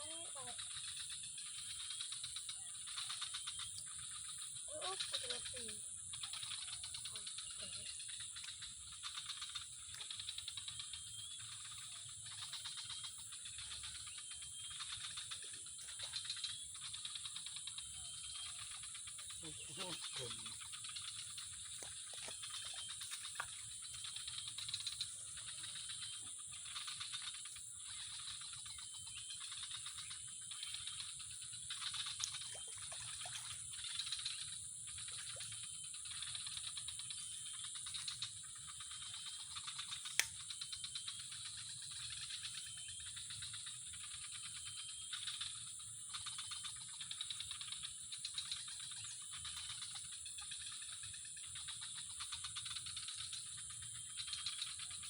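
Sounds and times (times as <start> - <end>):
animals chirring with trills: 0.0 - 55.0.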